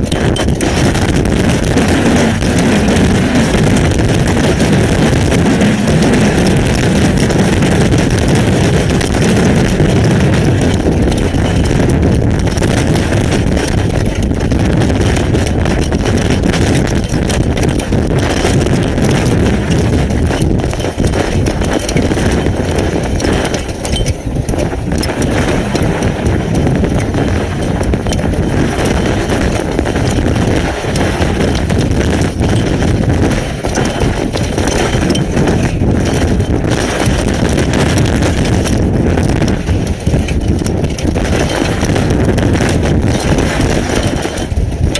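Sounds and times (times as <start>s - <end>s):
hail and rain pelting: 0.0s - 44.9s
wind buffeting microphone: 0.0s - 44.9s.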